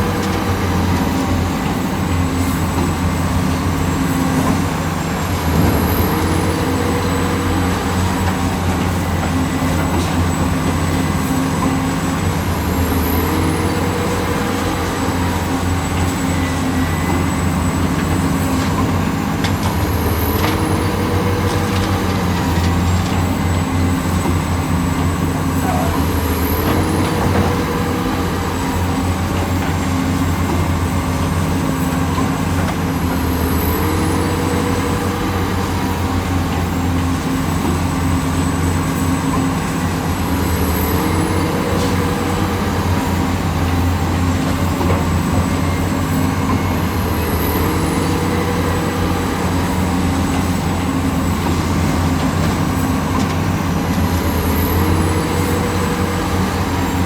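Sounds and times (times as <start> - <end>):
diesel construction machinery engine: 0.0 - 57.0.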